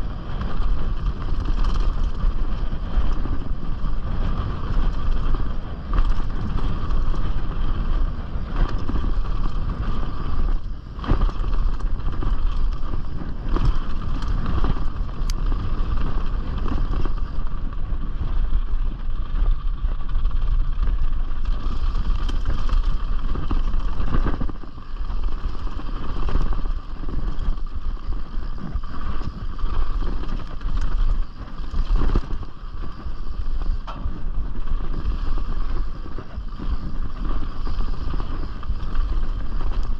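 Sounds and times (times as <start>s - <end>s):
bike rattling on rough ground: 0.0s - 39.9s
bike tyre rumble: 0.0s - 39.9s
wind on microphone: 0.0s - 39.9s.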